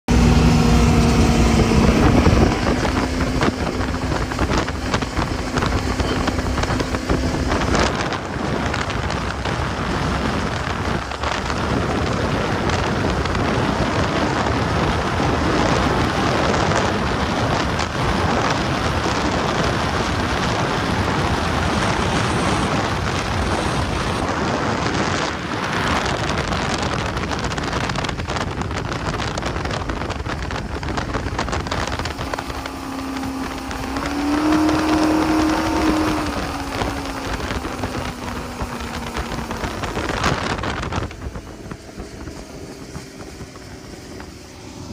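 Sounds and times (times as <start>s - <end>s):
boat engine tone: 0.1s - 44.9s
water rushing past hull: 0.1s - 44.9s
wind rushing over microphone: 0.1s - 44.9s.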